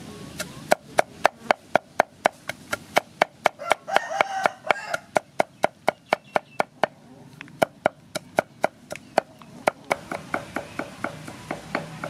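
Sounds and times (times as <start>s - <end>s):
meat cleaver chopping on wood: 0.7s - 6.9s, 7.6s - 12.0s.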